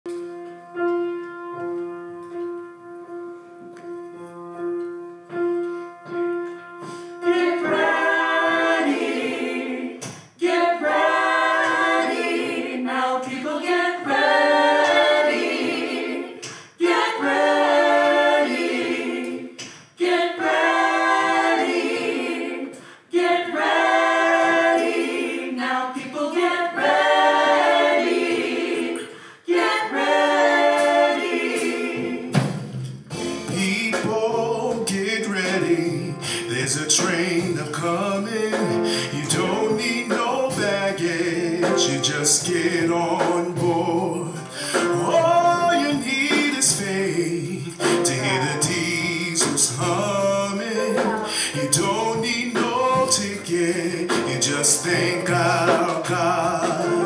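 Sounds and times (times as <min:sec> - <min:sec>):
piano chords: 0:00.1 - 0:57.0
church choir singing: 0:06.3 - 0:57.0.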